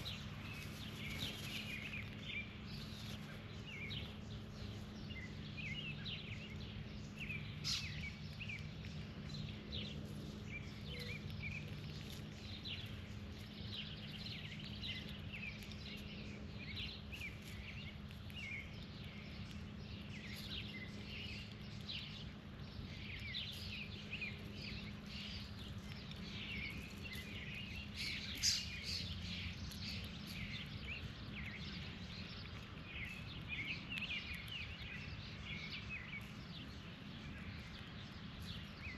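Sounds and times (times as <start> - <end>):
low background hum: 0.0 - 38.9
small birds chirping: 0.0 - 38.9.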